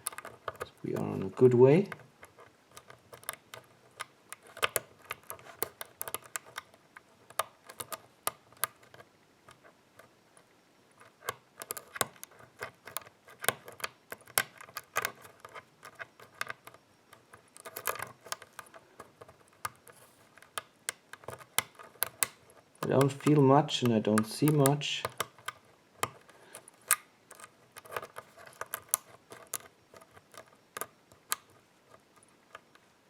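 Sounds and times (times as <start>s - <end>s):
lock pick clicking in lock pins: 0.0s - 9.6s, 11.0s - 32.7s.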